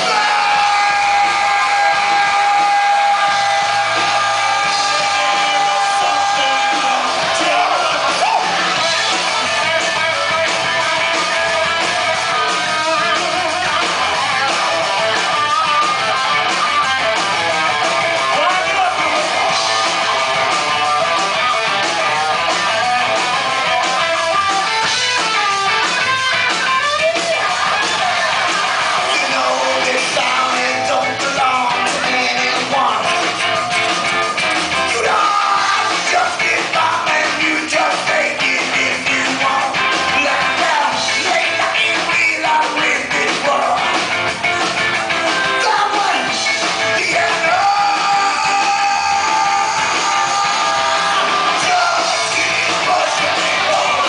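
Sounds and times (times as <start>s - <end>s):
bass guitar: 0.0s - 54.0s
electric guitar: 0.0s - 54.0s
live reggae punk band playing: 0.0s - 54.0s.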